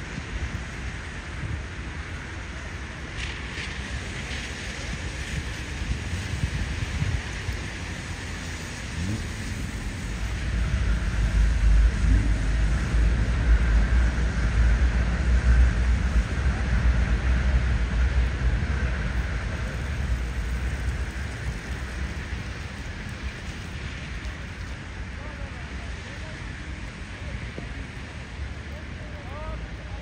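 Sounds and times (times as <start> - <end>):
city street noise: 0.0 - 30.0
passing vehicle rumble: 0.0 - 30.0.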